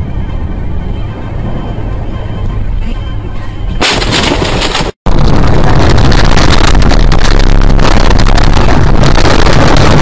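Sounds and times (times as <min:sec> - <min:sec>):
distorted vehicle rumble: 0:00.0 - 0:10.0.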